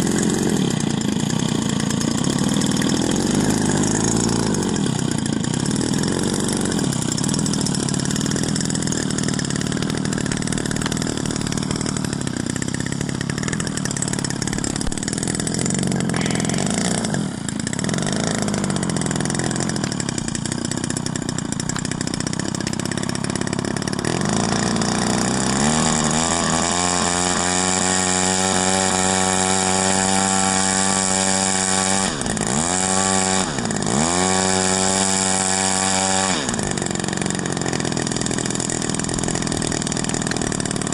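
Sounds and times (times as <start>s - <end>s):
model plane engine revving: 0.0s - 40.9s.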